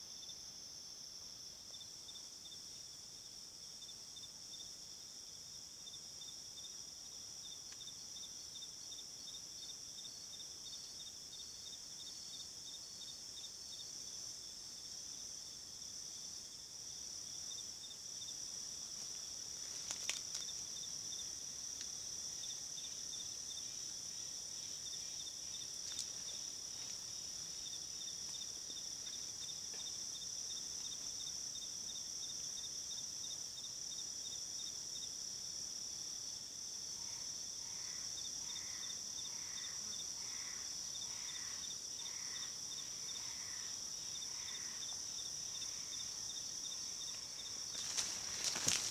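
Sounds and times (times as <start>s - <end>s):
cricket-like chirping: 0.0s - 48.9s
insects droning: 0.0s - 48.9s.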